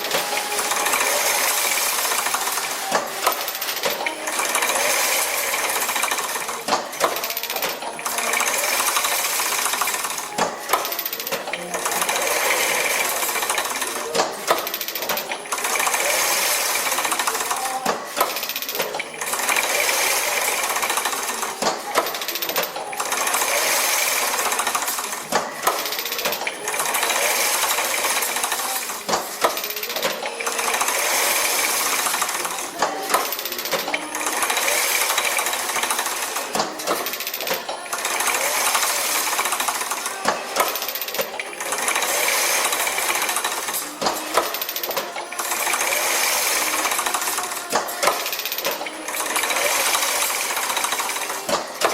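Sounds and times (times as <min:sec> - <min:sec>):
mesh machine running: 0:00.0 - 0:51.9.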